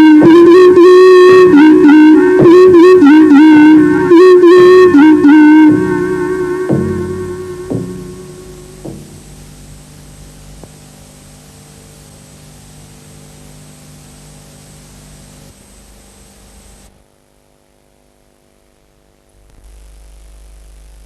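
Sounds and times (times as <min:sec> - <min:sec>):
steady hiss: 0:00.0 - 0:17.0
low mains hum: 0:00.0 - 0:21.0.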